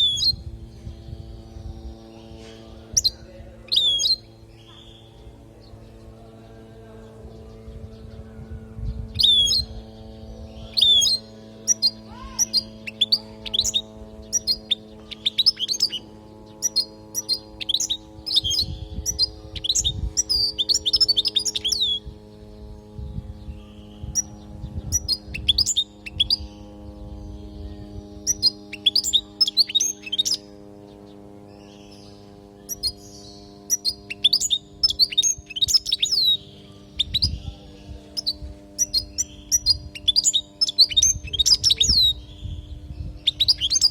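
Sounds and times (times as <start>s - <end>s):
goldfinch twittering song: 0.0s - 43.9s
steady low hum: 0.0s - 43.9s.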